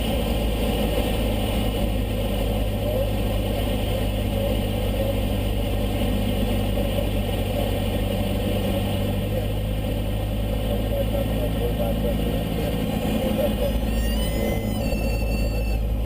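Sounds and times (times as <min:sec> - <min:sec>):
light aircraft engine droning: 0:00.0 - 0:16.0.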